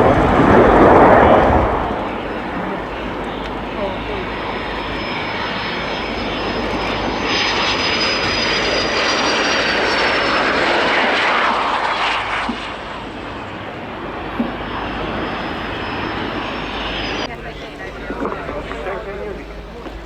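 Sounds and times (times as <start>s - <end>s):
high turbine whine: 0.0s - 20.0s
jet engine passing: 0.0s - 20.0s.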